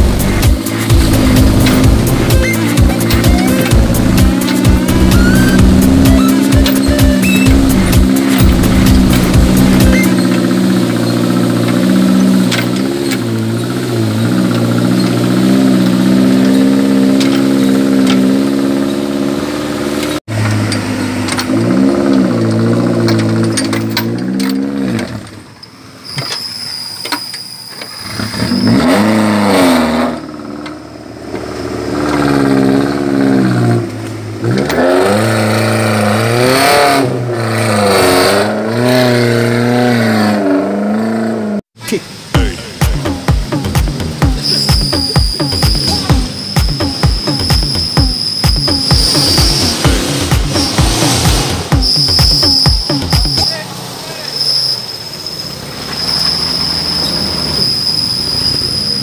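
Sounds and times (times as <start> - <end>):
off-road vehicle engine revving: 0.0 - 26.3, 27.9 - 59.0.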